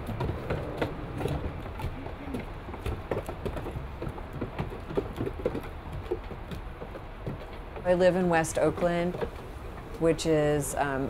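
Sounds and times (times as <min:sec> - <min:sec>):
hooves clattering on wooden stairs: 0:00.0 - 0:11.0.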